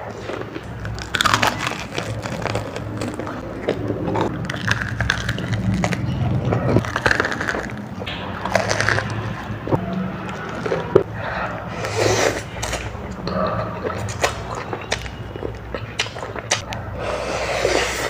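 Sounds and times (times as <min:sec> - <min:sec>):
noodles being chewed: 0:00.0 - 0:18.0.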